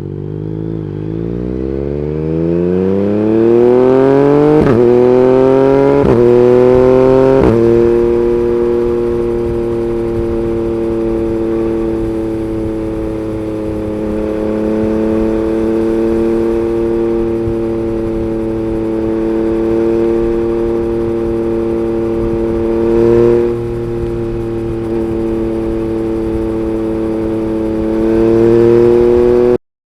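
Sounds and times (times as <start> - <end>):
motorcycle engine cruising: 0.0 - 29.6.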